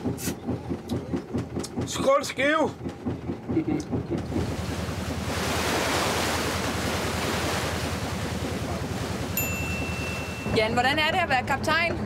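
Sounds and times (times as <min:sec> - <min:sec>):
boat engine chugging: 0:00.0 - 0:12.0
water rushing along hull: 0:00.0 - 0:12.0.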